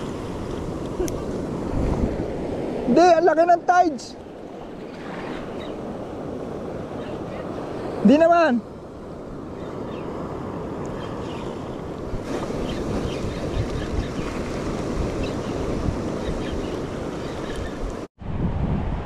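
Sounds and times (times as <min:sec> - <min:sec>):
waves washing over rocks: 0:00.0 - 0:08.6, 0:10.4 - 0:18.1
wind buffeting microphone: 0:00.0 - 0:19.0.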